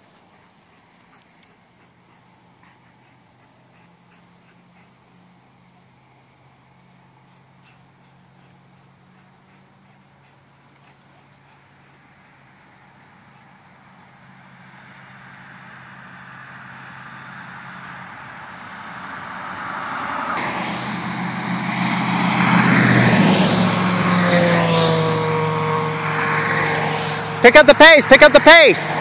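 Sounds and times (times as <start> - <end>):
engine passing by: 0.0 - 29.0.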